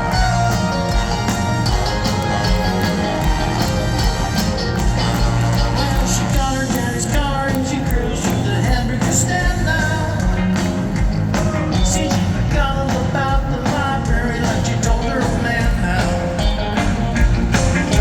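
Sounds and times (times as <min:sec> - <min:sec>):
lead and harmony vocals singing: 0:00.0 - 0:10.6, 0:11.8 - 0:16.4
live rock band playing: 0:00.0 - 0:18.0.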